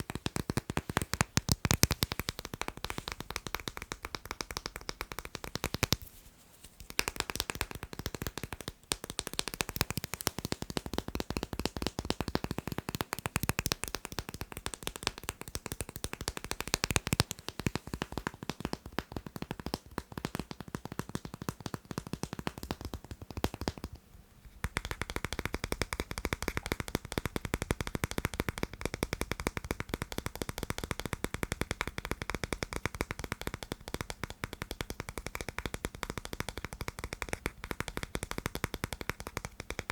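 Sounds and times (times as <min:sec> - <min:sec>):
rapid tapping on magnets: 0:00.0 - 0:06.0, 0:06.8 - 0:39.9.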